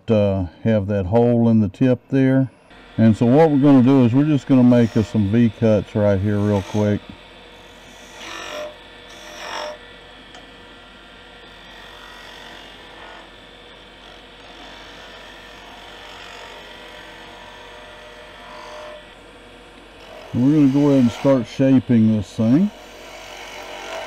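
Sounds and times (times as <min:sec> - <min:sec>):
turning tool cutting wood: 0:02.7 - 0:24.0
wood lathe running: 0:02.7 - 0:24.0.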